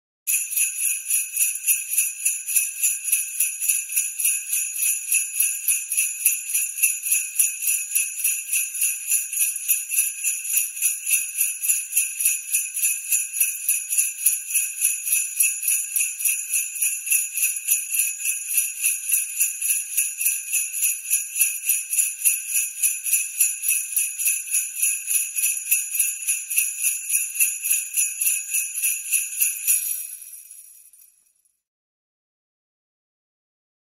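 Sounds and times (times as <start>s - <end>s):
sleigh bells jingling: 0.3s - 31.4s.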